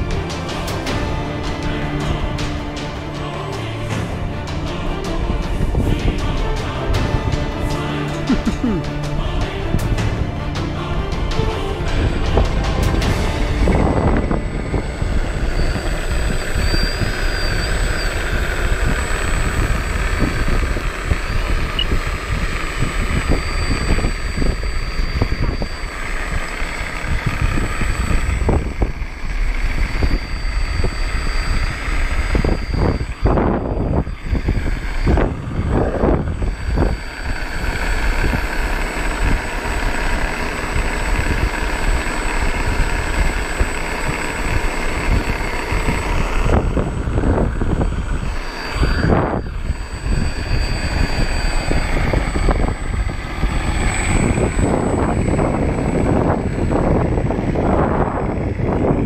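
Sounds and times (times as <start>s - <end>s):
electric motor whine: 0.0s - 59.0s
wind buffeting microphone: 3.8s - 59.0s.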